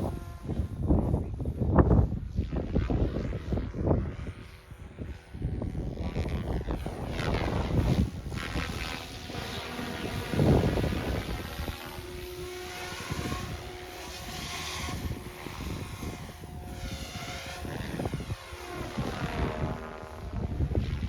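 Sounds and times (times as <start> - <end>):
helicopter rotor whirring: 0.0 - 21.0
wind buffeting microphone: 0.0 - 21.0.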